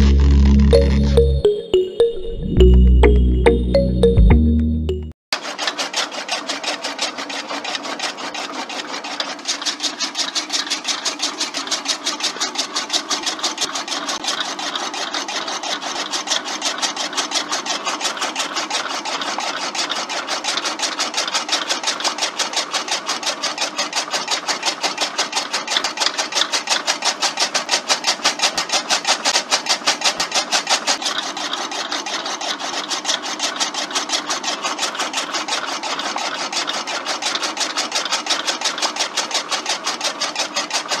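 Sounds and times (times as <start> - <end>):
blade chopping stalks clatter: 5.4 - 41.0.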